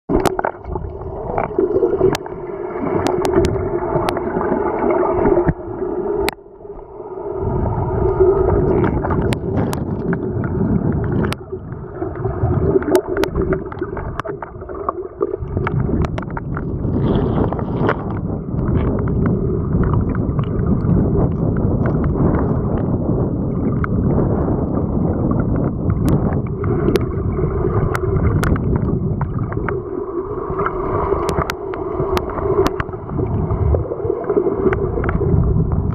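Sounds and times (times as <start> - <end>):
underwater boat engine hum: 0.1 - 35.9
water churning: 0.1 - 35.9.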